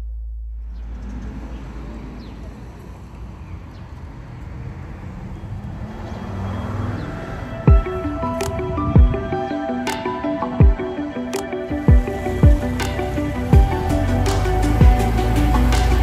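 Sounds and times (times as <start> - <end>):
road traffic rumble: 0.5 - 16.0.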